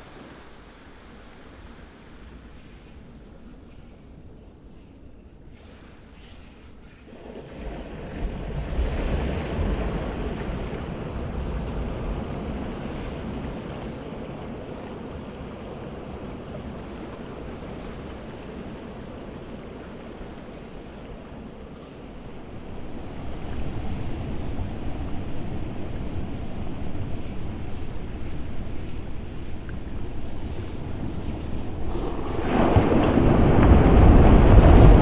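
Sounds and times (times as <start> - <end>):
surf rushing: 0.0 - 4.3, 5.5 - 35.0
wind rumble on microphone: 0.0 - 35.0.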